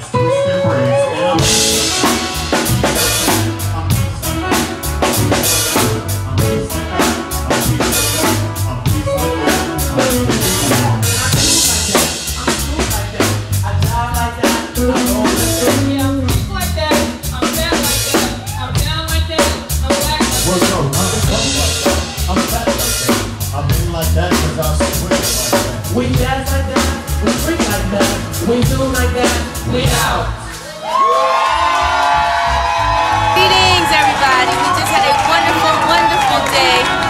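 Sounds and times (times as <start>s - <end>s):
electric bass: 0.0s - 30.6s, 31.6s - 37.0s
drum kit: 0.0s - 37.0s.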